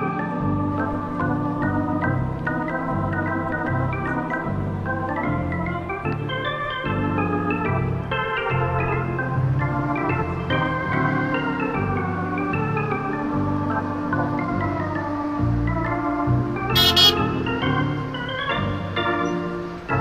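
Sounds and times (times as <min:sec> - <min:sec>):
background music with bass line: 0:00.0 - 0:20.0.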